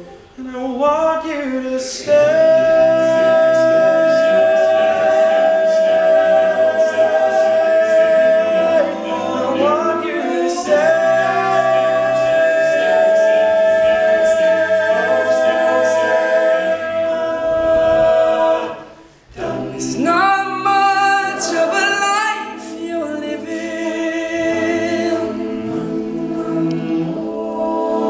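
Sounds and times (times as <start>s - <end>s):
a cappella group singing: 0.4s - 28.0s.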